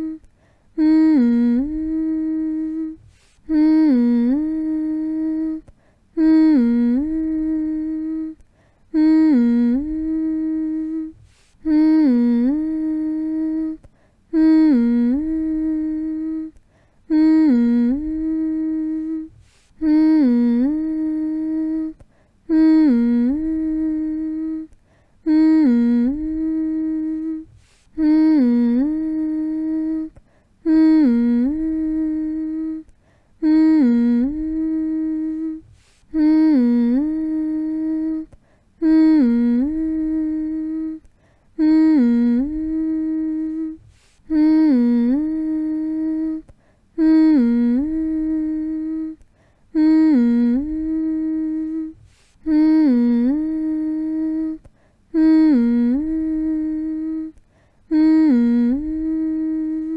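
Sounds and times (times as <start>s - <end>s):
person humming: 0.0s - 59.9s.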